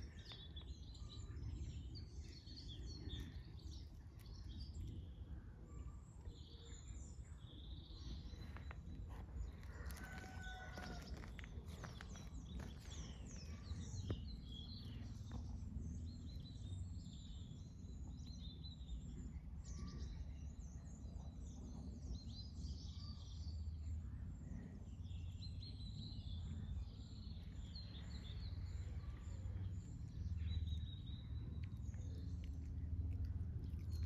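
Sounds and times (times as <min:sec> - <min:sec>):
low outdoor rumble: 0:00.0 - 0:34.0
small birds chirping: 0:00.0 - 0:34.0.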